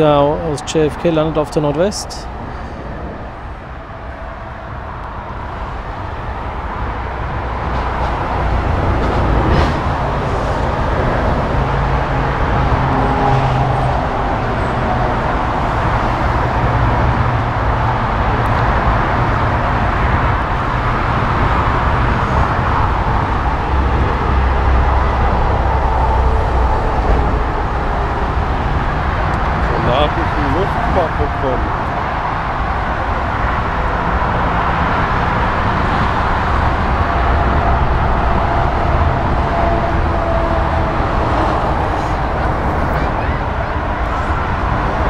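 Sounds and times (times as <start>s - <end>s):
jet engines taxiing: 0.0s - 45.0s.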